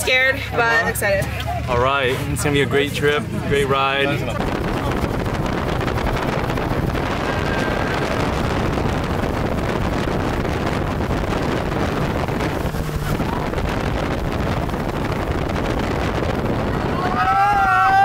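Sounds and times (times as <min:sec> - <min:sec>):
buggy engine rumbling: 0:00.0 - 0:18.0
wind buffeting microphone: 0:00.0 - 0:18.0.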